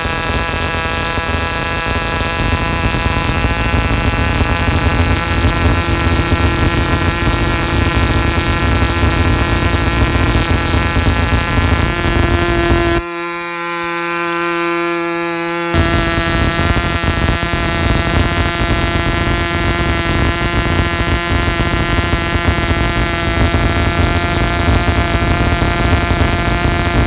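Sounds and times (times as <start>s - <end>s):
model engine buzzing drone: 0.0s - 27.0s.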